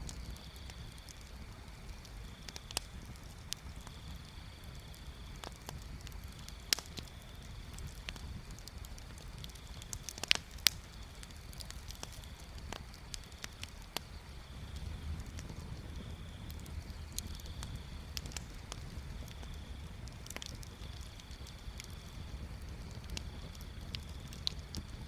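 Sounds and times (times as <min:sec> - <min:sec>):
wood bonfire crackling: 0:00.0 - 0:25.0.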